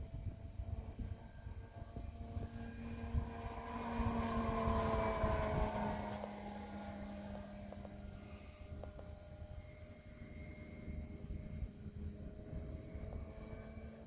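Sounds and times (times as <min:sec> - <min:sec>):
model plane propeller whine: 0:00.0 - 0:14.0
wind rumble on microphone: 0:00.0 - 0:14.0.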